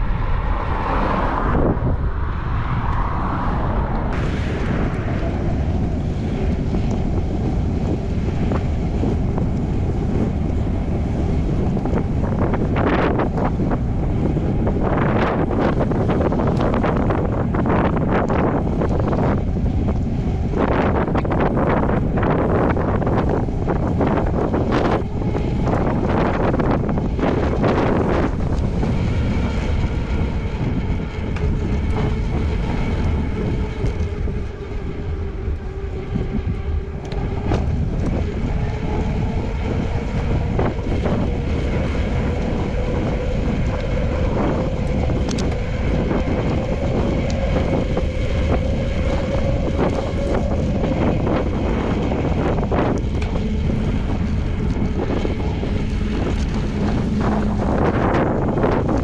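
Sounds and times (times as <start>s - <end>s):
faint hum: 0.0s - 59.0s
wind buffeting microphone: 0.0s - 59.0s.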